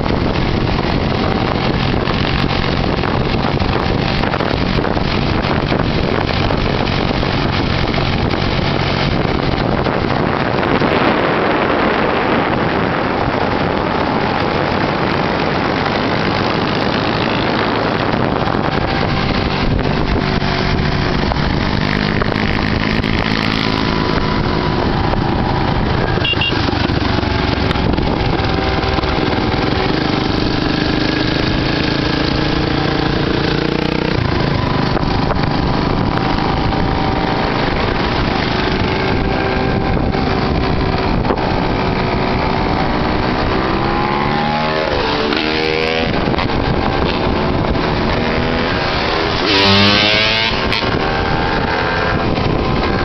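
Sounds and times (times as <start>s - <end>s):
dirt bike and quad engines: 0.0s - 53.0s
engine revving: 0.0s - 53.0s.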